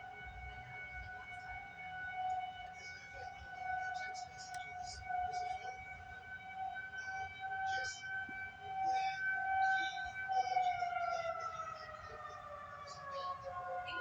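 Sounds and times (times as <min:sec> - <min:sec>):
siren-like trumpet tone: 0:00.0 - 0:14.0.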